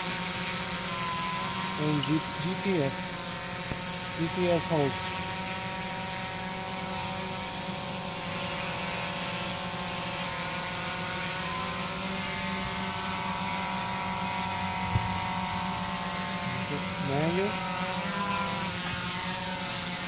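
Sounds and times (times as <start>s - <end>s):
quadcopter motors humming: 0.0s - 20.0s.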